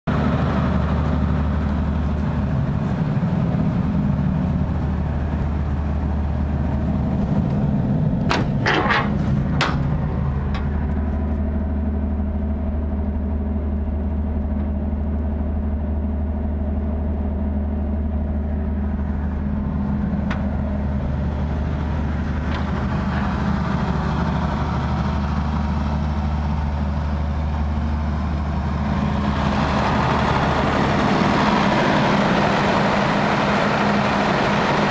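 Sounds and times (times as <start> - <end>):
diesel generator humming: 0.1 - 34.9.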